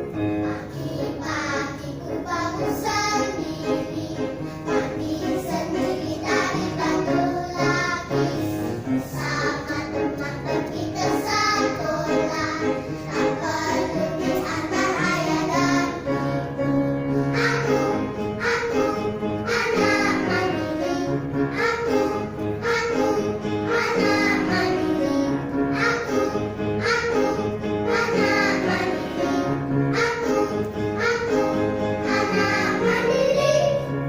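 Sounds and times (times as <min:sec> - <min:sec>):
children's choir singing: 0:00.0 - 0:34.0
instrumental accompaniment: 0:00.0 - 0:34.0.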